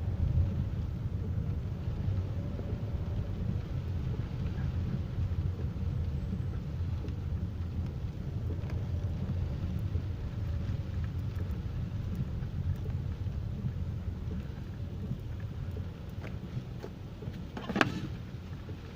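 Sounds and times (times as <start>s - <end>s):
ticks of raindrops: 0.0s - 18.9s
wind and rain rumbling: 0.0s - 18.9s.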